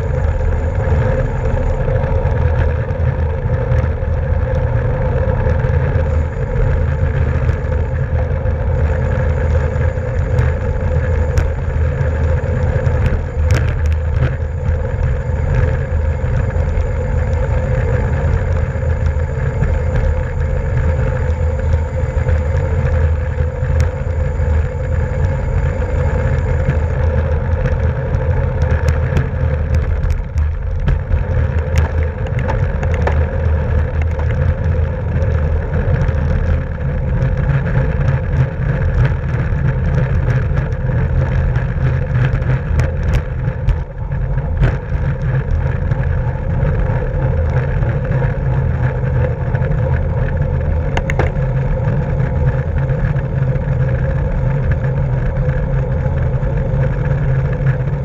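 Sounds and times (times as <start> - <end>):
bicycle tyre road noise: 0.0 - 58.0
wind rushing on microphone: 0.0 - 58.0
scattered clicks: 0.2 - 58.0.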